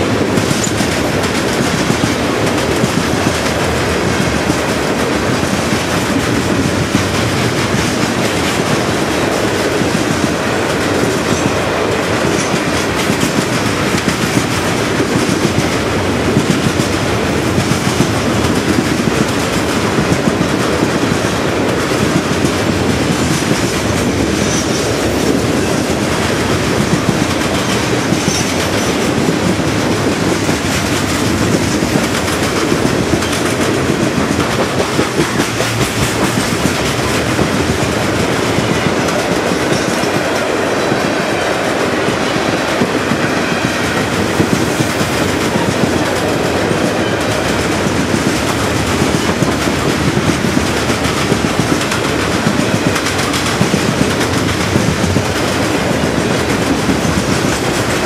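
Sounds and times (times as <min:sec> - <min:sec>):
freight train wheels clattering on track: 0:00.0 - 0:58.0.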